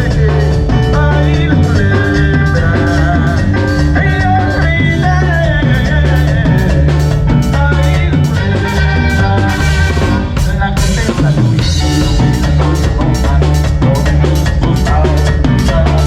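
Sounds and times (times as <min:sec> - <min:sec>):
live cumbia band playing: 0:00.0 - 0:16.0.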